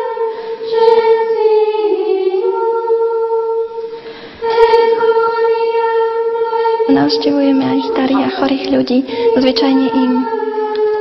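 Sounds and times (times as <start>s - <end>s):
women singing a hymn: 0.0s - 11.0s.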